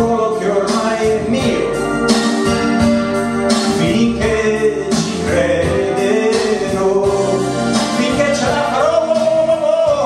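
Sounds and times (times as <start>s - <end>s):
man singing: 0.0s - 2.0s, 3.6s - 10.0s
keyboard-led pop backing track: 0.0s - 10.0s.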